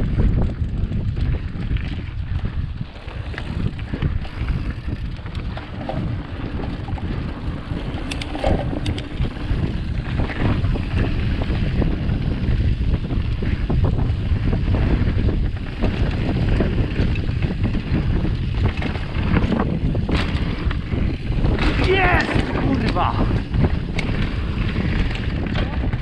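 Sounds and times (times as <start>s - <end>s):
bike clicks and rattles: 0.0s - 26.0s
bike rolling on dirt trail: 0.0s - 26.0s
wind buffeting microphone: 0.0s - 26.0s.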